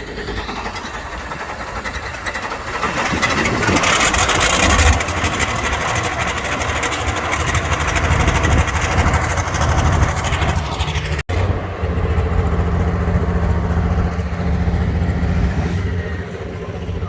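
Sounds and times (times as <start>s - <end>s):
vehicle engine running loudly: 0.0s - 17.0s.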